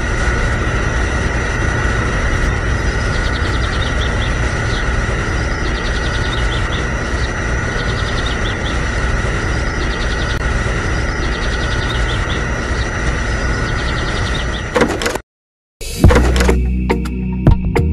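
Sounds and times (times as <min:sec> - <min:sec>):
high chirping trills: 0:00.0 - 0:14.8
electric pump motor whining: 0:00.0 - 0:15.2, 0:16.0 - 0:16.7
low hum: 0:00.0 - 0:15.2.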